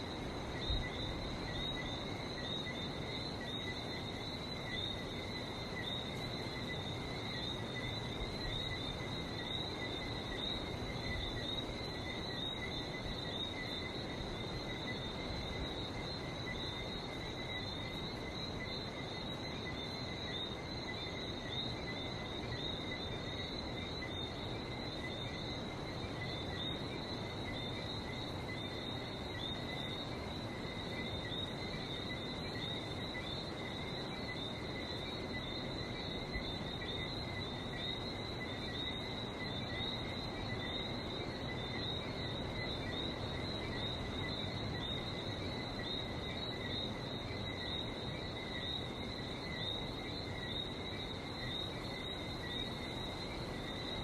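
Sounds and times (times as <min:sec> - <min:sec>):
frogs chirping: 0:00.0 - 0:54.0.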